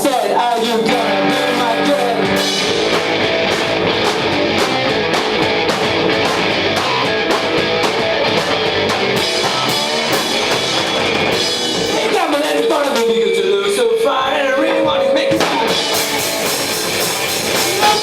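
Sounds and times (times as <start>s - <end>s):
distorted electric guitar chords: 0.8s - 18.0s
drums and cymbals: 1.2s - 13.3s, 15.3s - 18.0s.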